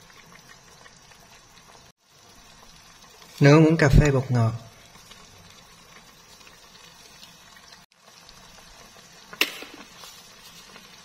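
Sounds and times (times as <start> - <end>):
liquid simmering in a wok: 0.0 - 11.0.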